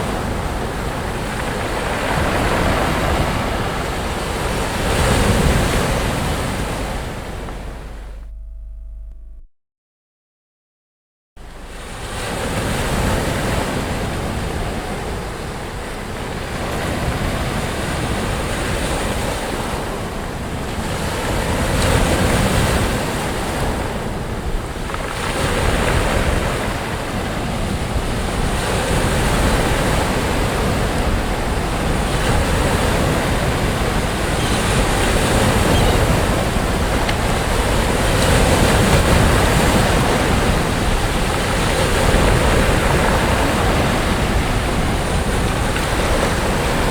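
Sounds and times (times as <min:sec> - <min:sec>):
sea waves breaking: 0:00.0 - 0:08.3, 0:11.4 - 0:46.9.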